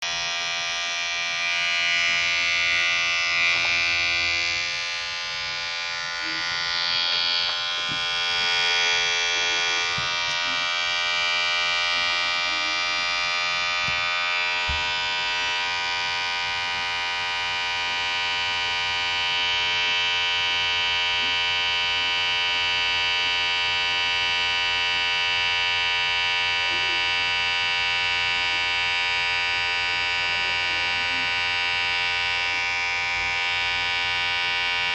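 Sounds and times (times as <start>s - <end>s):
electric hair clipper buzzing: 0.0s - 34.9s.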